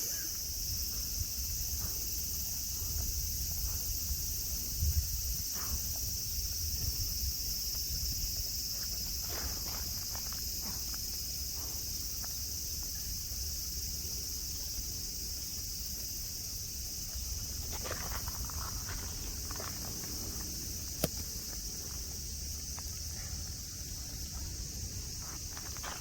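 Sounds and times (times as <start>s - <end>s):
cicadas singing: 0.0s - 26.0s.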